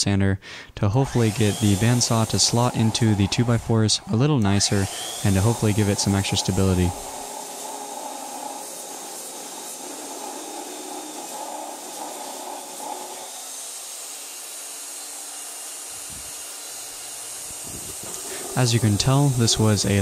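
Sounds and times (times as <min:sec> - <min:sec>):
belt sander grinding wood: 0:01.1 - 0:20.0.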